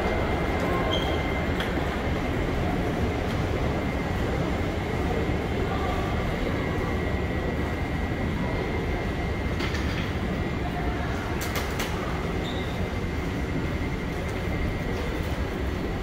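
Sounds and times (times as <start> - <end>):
tram rumble: 0.0 - 16.0.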